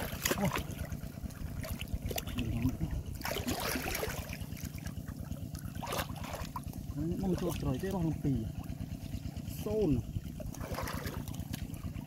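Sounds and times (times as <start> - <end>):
steady low rumble: 0.0 - 12.0
water sloshing and splashing: 0.0 - 12.0.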